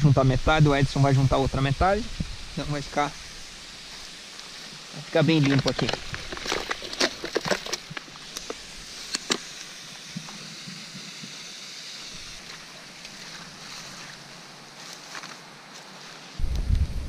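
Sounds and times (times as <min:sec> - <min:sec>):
running water rushing: 0:00.0 - 0:16.4.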